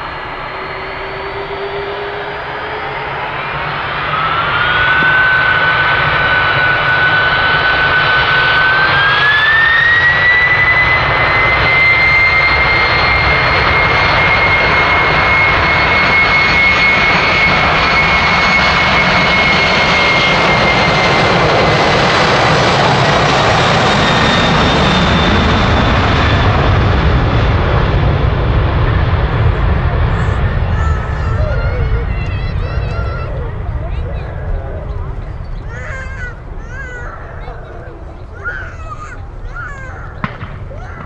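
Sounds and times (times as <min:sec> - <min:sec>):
jet engines roaring with whine: 0:00.0 - 0:41.0.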